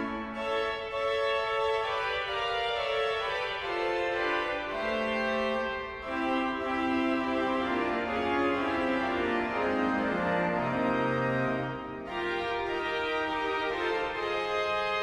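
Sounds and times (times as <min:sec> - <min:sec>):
pipe organ playing chords: 0:00.0 - 0:15.0.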